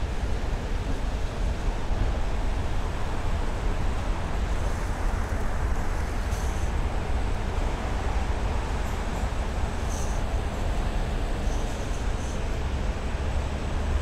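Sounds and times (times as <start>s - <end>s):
escalator rumble and hiss: 0.0s - 14.0s.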